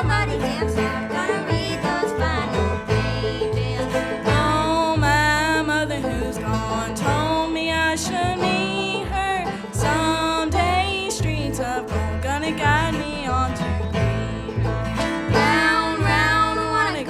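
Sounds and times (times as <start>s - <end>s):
bluegrass band playing: 0.0s - 17.0s.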